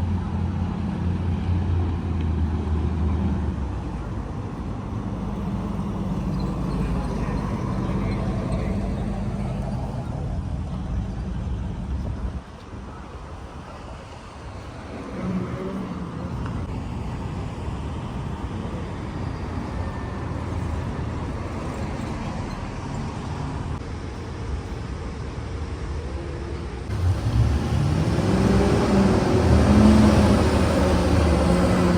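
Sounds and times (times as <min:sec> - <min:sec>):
vehicle rumble: 0:00.0 - 0:31.9.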